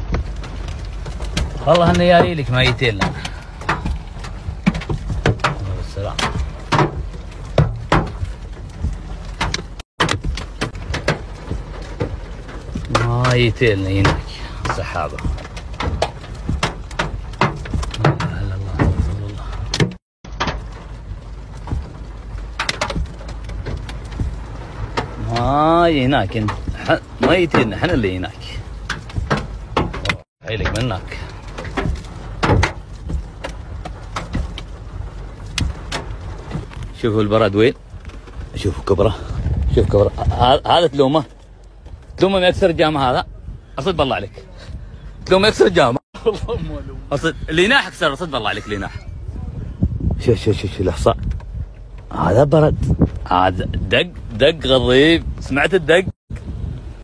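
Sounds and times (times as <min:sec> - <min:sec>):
hailstones striking a car: 0:00.0 - 0:48.9
low rumble of car: 0:00.0 - 0:57.0.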